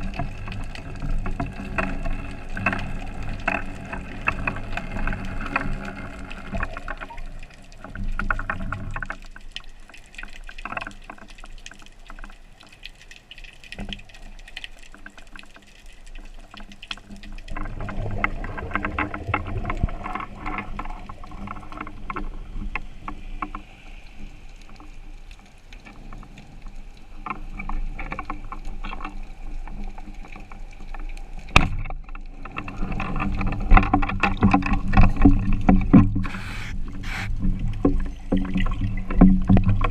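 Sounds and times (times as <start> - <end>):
water sloshing and bubbling: 0.0 - 39.9.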